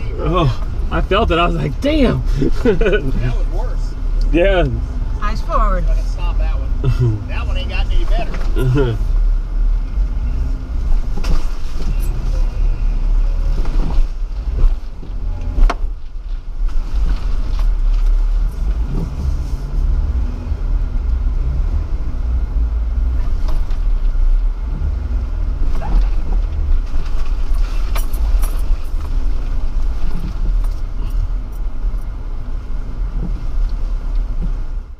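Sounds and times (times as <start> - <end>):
engine and drivetrain rumble: 0.0 - 34.9.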